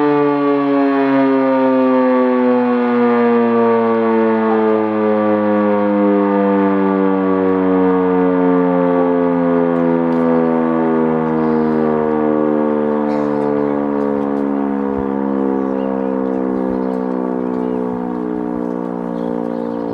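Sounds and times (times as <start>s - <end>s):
civil defence siren winding down: 0.0s - 19.9s.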